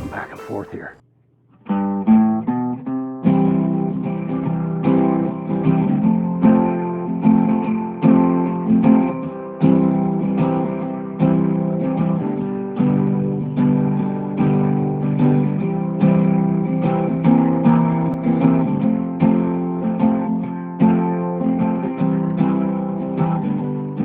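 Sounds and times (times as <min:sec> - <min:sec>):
guitar chords strummed: 0:00.0 - 0:01.0, 0:01.6 - 0:24.0.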